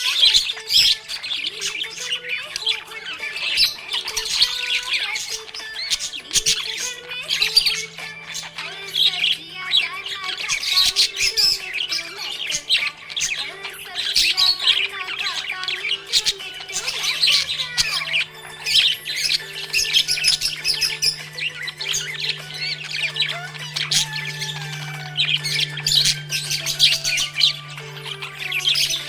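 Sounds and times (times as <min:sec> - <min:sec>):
budgerigars chirping and warbling: 0:00.0 - 0:29.0.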